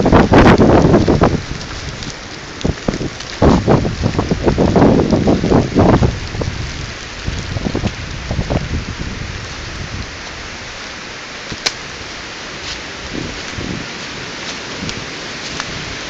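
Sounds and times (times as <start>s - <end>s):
wind buffeting microphone: 0.0s - 16.0s
wind rushing through trees: 0.0s - 16.0s.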